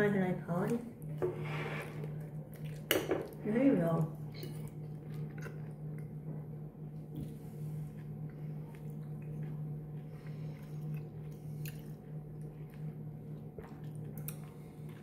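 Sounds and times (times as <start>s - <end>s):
low hum: 0.0s - 15.0s
soft chewing: 1.8s - 3.4s, 4.2s - 15.0s.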